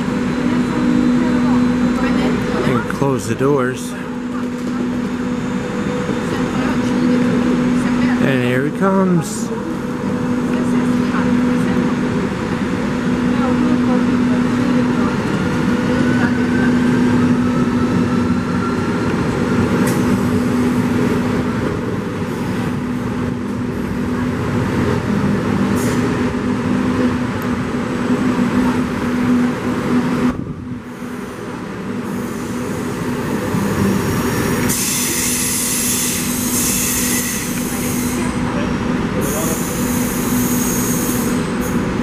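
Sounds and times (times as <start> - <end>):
electric train passing: 0.0 - 42.0
train drive humming: 0.0 - 42.0.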